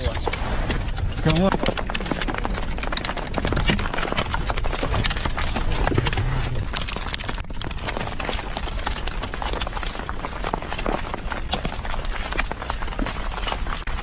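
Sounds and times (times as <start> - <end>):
volcanic debris pattering on ground: 0.0 - 14.0.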